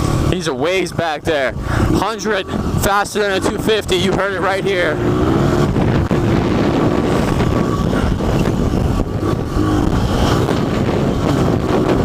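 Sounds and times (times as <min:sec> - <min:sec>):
dirt bike engine revving: 0:01.7 - 0:12.0
wind buffeting microphone: 0:01.8 - 0:12.0.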